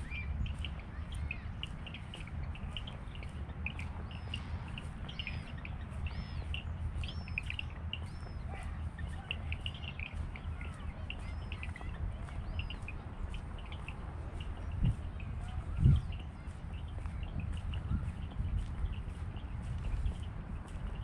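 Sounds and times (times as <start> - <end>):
birds chirping and whistling: 0.0 - 20.3
steady low rumble: 0.0 - 21.0.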